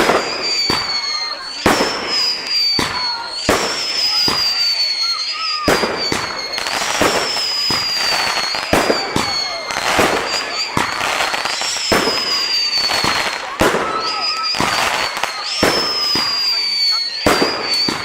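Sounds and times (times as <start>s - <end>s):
fireworks bursting with sharp bangs: 0.0s - 18.0s
high falling whistle: 0.0s - 18.0s.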